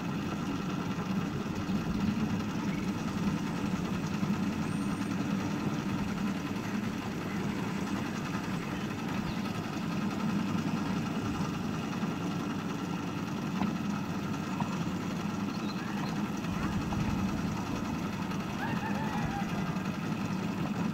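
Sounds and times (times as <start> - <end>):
locomotive engine running: 0.0 - 20.9.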